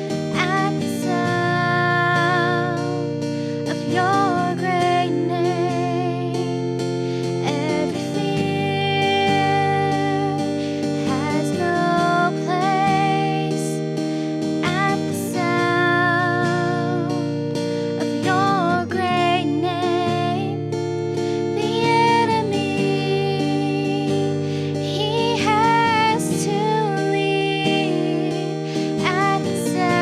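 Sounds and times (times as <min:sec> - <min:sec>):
person singing: 0:00.0 - 0:06.5, 0:07.1 - 0:17.4, 0:18.0 - 0:30.0
guitar chords: 0:00.0 - 0:30.0.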